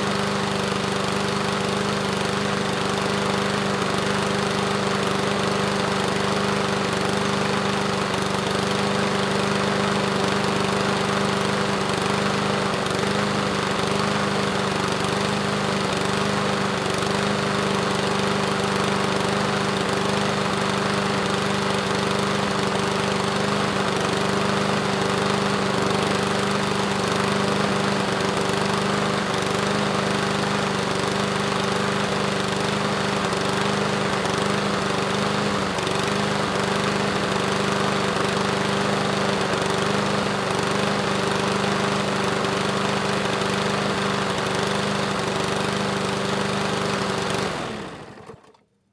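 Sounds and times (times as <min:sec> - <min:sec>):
lawnmower engine running: 0:00.0 - 0:48.6.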